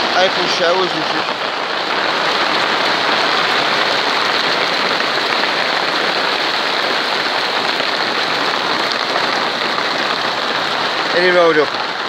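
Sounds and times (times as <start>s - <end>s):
hail pattering on plastic: 0.0s - 12.0s.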